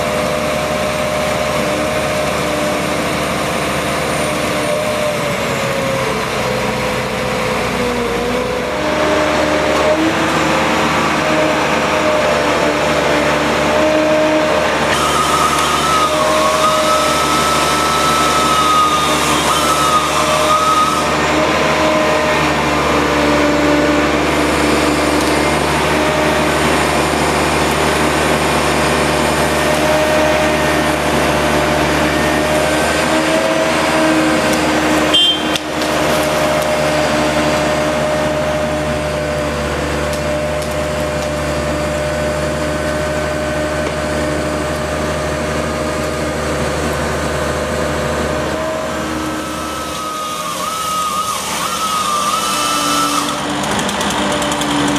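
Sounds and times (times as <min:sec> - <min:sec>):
engine drone: 0:00.0 - 0:54.9
steady whine: 0:08.5 - 0:54.9.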